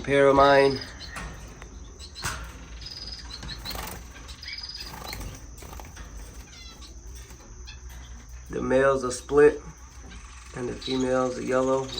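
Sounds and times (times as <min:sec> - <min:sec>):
finches chirping: 0:00.0 - 0:11.9
steady high-pitched whine: 0:00.0 - 0:11.9.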